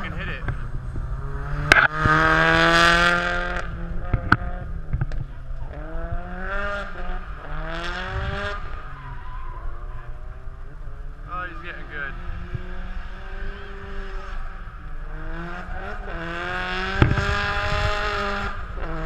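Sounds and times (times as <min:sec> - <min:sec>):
car engine revving hard: 0:00.0 - 0:04.8, 0:05.7 - 0:10.5, 0:11.5 - 0:19.0.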